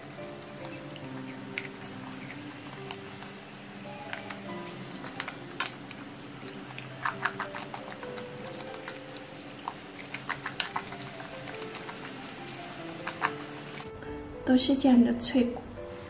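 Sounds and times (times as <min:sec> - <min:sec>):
soft background music: 0:00.0 - 0:16.0
chewing with sharp crunches: 0:00.2 - 0:03.4, 0:04.2 - 0:13.9.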